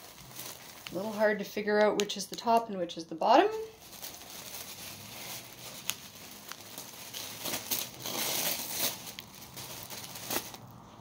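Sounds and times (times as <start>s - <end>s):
packing paper crinkling: 0.0s - 1.8s, 3.4s - 10.8s.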